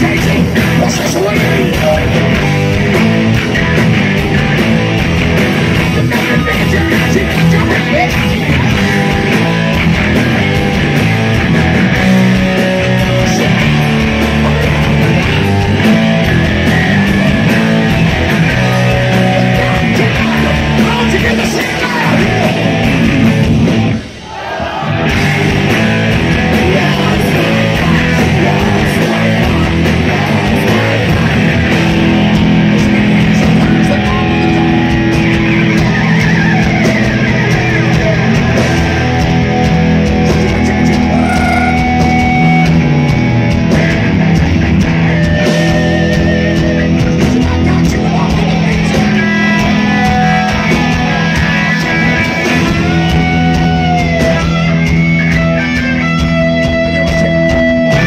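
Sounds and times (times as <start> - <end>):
bass guitar: 0.0 - 58.0
distorted electric guitars: 0.0 - 58.0
drums: 0.0 - 58.0.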